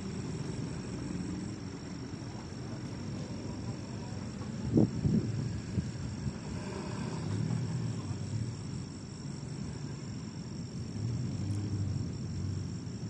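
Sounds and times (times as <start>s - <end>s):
crickets trilling: 0.0s - 13.0s
low background rumble: 0.0s - 13.0s.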